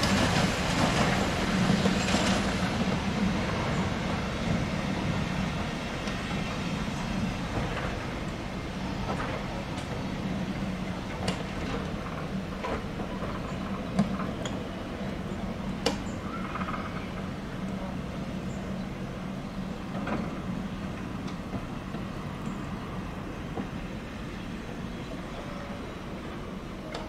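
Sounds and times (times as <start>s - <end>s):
diesel locomotive hum: 0.0s - 27.0s.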